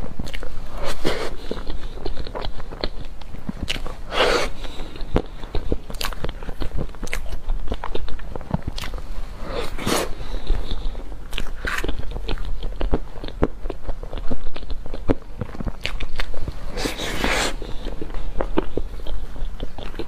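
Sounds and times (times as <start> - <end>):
wet mouth clicks and chewing: 0.0 - 20.0.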